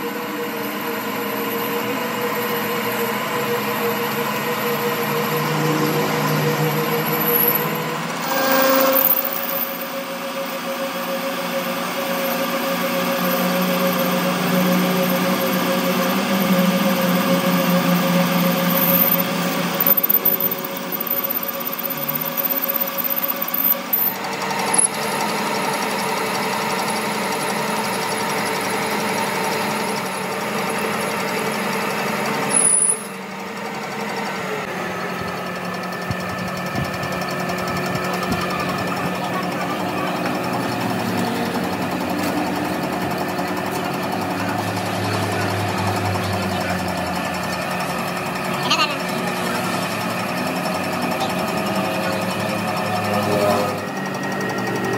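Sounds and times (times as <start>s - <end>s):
gear whine: 0.0s - 54.9s
metal lathe running: 0.0s - 54.9s.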